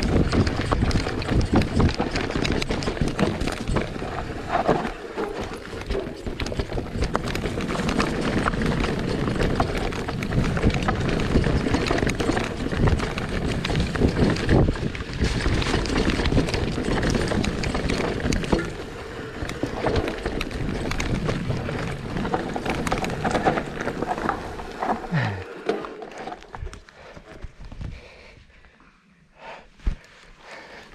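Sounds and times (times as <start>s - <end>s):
bike rattling over rocks: 0.0s - 27.6s.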